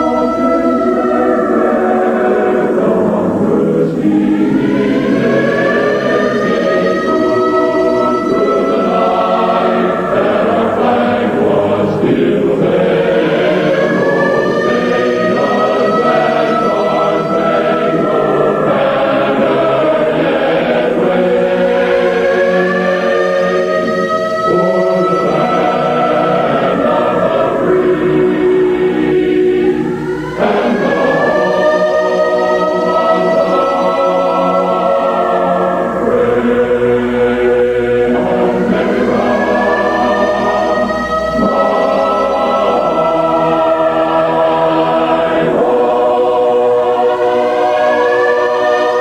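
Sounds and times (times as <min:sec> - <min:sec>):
choir singing held chords: 0:00.0 - 0:49.0
high tones gliding upward: 0:00.0 - 0:49.0.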